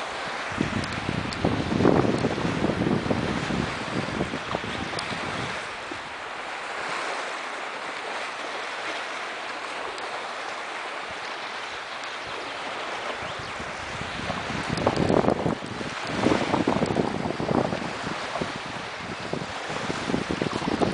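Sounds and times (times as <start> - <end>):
river water splashing around kayak: 0.0 - 20.9
wind rumbling on microphone: 0.0 - 20.9.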